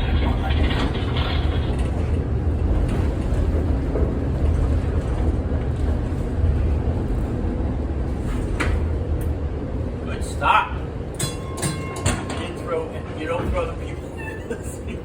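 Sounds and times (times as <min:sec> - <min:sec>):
streetcar wheels rumbling on track: 0:00.0 - 0:15.0.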